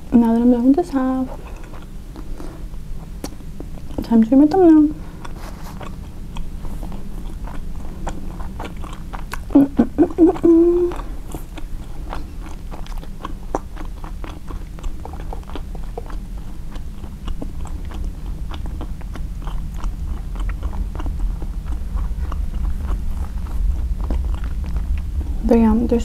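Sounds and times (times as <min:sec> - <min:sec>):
chewing and crunching: 0:00.0 - 0:26.0
steady low hum: 0:00.0 - 0:26.0.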